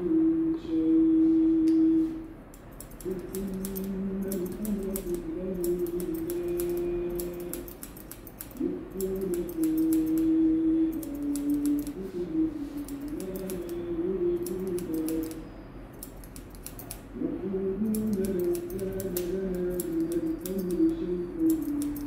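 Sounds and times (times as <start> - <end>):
scissors snipping hair: 2.5 - 17.1, 17.8 - 22.0.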